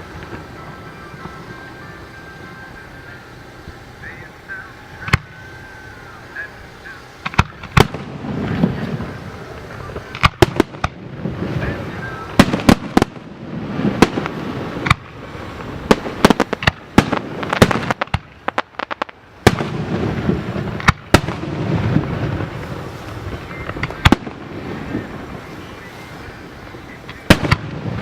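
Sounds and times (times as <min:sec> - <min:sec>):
crackling pops: 0:00.0 - 0:28.0
firework shells bursting: 0:00.0 - 0:28.0.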